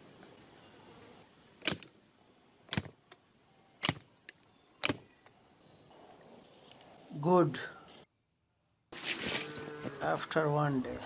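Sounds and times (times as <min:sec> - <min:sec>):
high cricket trill: 0:00.0 - 0:08.1, 0:09.0 - 0:11.0.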